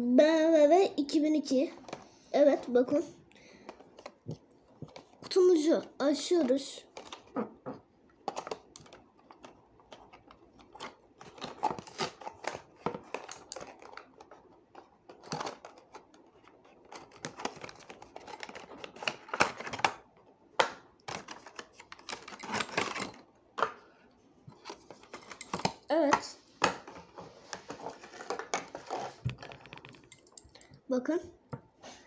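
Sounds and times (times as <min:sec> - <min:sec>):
packaging clicks and rustles: 0:03.4 - 0:07.4, 0:08.1 - 0:23.8, 0:24.5 - 0:30.6.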